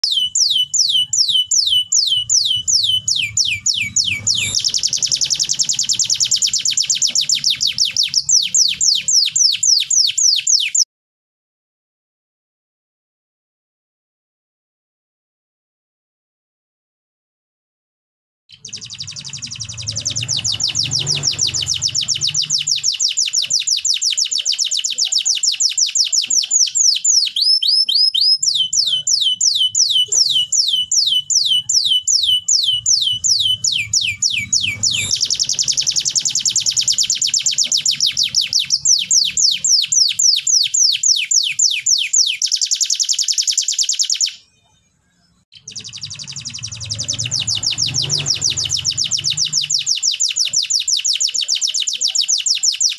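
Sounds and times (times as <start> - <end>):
canary singing trills: 0.0 - 10.9, 18.5 - 52.9.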